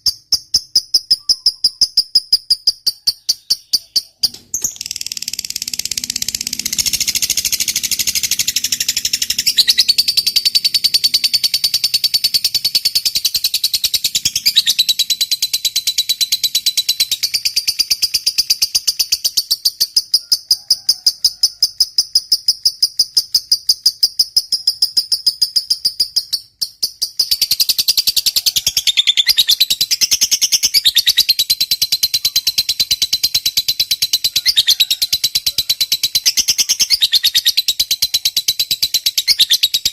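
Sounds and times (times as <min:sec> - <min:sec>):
lovebird chattering trill: 0:00.0 - 0:20.5, 0:21.9 - 0:39.9.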